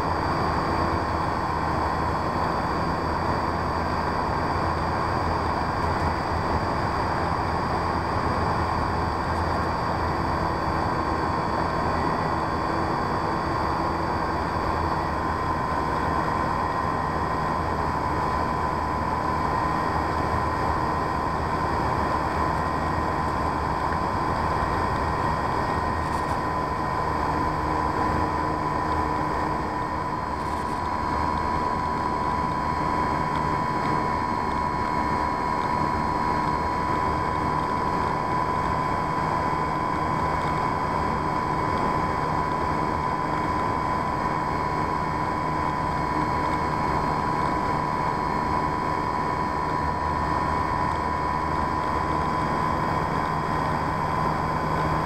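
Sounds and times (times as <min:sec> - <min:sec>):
model plane motor whine: 0:00.0 - 0:55.0.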